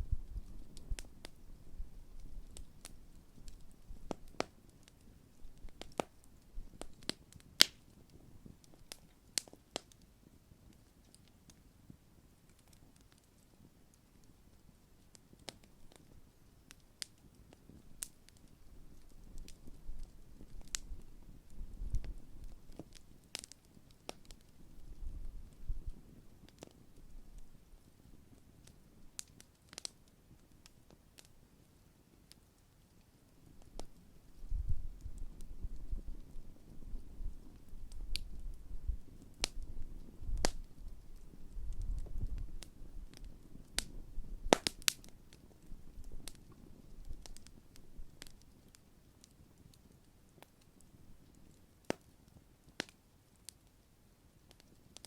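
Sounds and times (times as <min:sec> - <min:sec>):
low rumble of flames: 0:00.0 - 0:53.8
campfire burning: 0:00.0 - 0:55.0
fire crackles and pops: 0:00.0 - 0:55.0.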